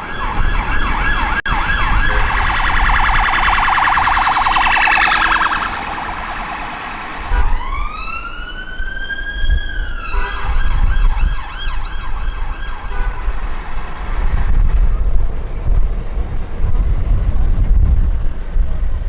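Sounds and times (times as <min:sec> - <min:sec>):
emergency vehicle sirens: 0:00.0 - 0:15.5
traffic rumble: 0:00.0 - 0:19.0.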